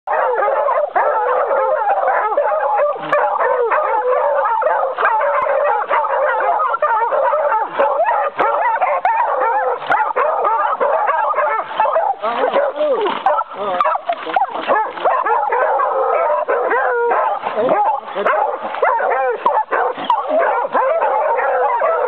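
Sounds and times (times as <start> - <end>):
hounds baying and howling: 0.1 - 22.0.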